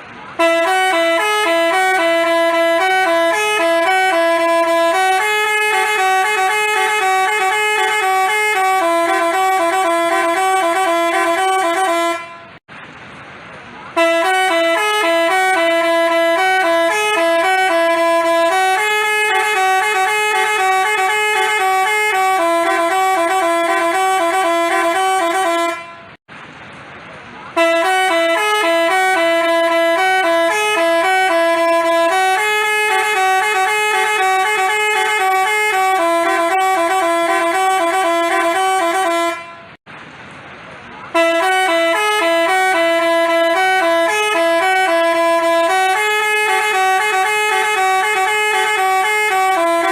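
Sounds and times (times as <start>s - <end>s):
bus horn playing melody: 0.1s - 12.6s, 13.9s - 26.2s, 27.5s - 39.8s, 41.1s - 49.9s.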